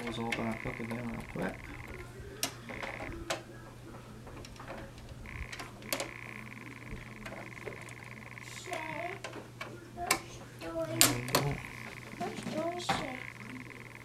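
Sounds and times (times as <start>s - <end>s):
rapid buzzing rattle: 0.0s - 3.5s, 4.4s - 14.0s
low hum: 0.0s - 10.0s, 10.6s - 14.0s.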